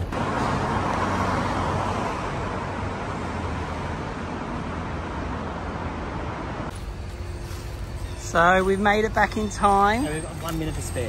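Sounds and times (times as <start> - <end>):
passing vehicles: 0.0 - 11.0.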